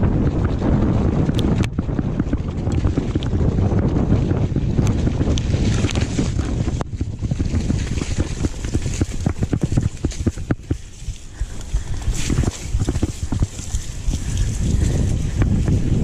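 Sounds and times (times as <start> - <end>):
low rumble: 0.0 - 16.0
wind buffeting microphone: 0.0 - 16.0
bike knocks and rattles: 0.1 - 16.0.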